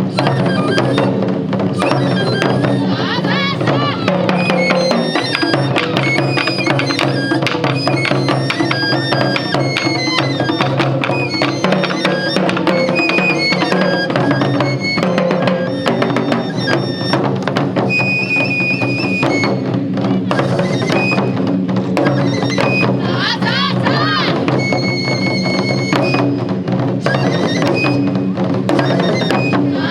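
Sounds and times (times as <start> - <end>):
high flute melody: 0.0 - 29.9
taiko drums playing fast rhythm: 0.0 - 29.9.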